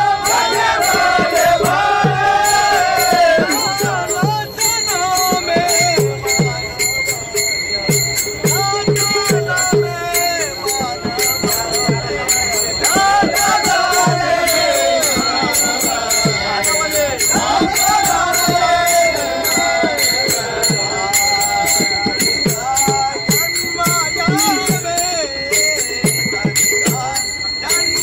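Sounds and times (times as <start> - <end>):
hand cymbals struck rhythmically: 0.0 - 28.0
men singing in chorus: 0.0 - 28.0.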